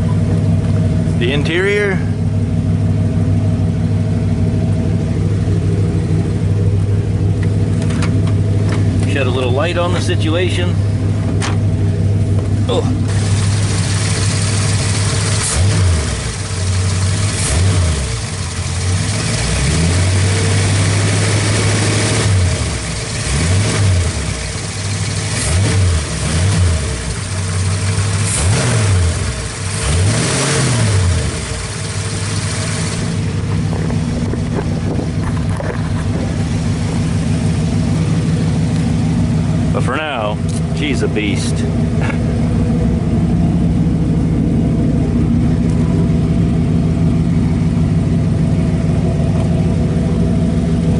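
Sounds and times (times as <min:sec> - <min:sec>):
engine revving and idling: 0:00.0 - 0:50.9.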